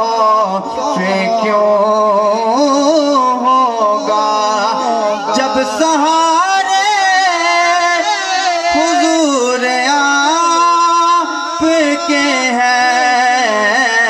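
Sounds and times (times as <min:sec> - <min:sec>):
man singing long held notes: 0:00.0 - 0:14.0.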